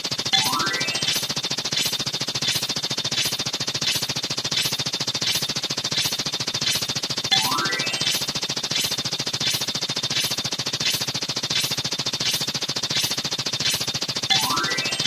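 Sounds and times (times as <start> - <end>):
machine gun fire: 0.0 - 15.0.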